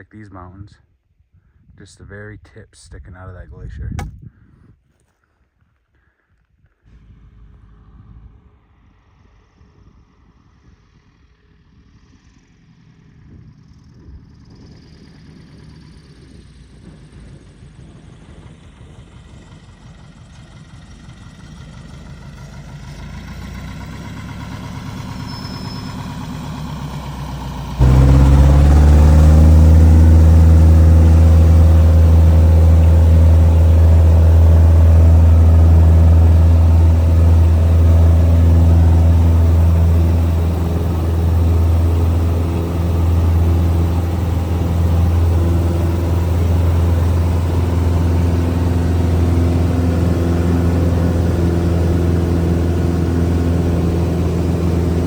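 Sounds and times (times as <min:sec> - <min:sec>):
small plane engine drone: 0:06.9 - 0:55.0.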